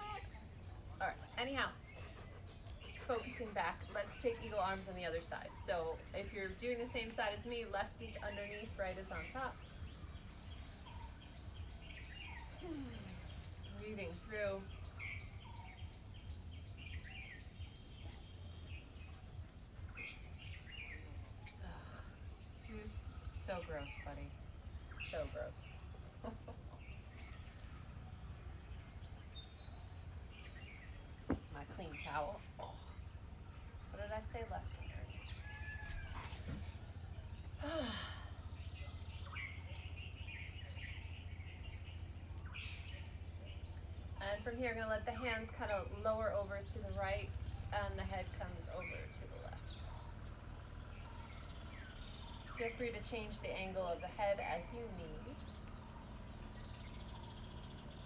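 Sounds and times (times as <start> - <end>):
birds chirping: 0.0 - 58.0
steady low hum: 0.0 - 58.0.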